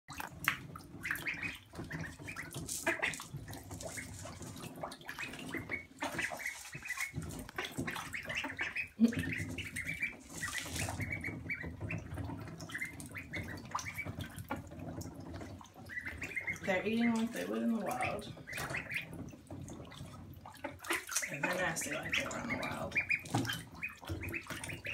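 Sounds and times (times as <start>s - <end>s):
ducklings peeping: 0.1s - 24.9s
splashing in shallow water: 0.1s - 24.9s.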